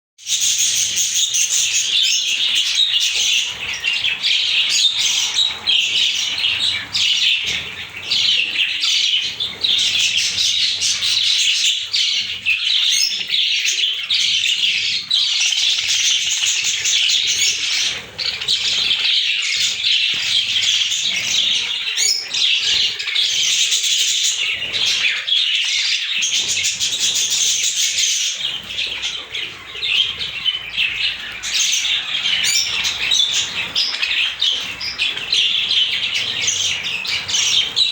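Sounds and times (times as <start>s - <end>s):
budgerigars chattering: 0.2s - 37.9s.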